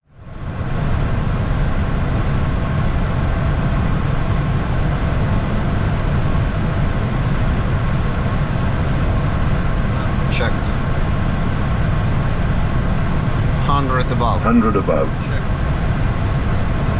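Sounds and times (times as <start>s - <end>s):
cockpit airflow and engine noise: 0.1s - 16.9s.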